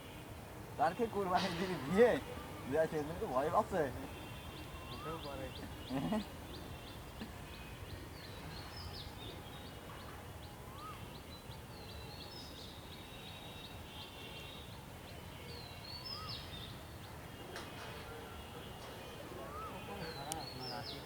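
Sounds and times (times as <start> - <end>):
low steady background noise: 0.0 - 21.0.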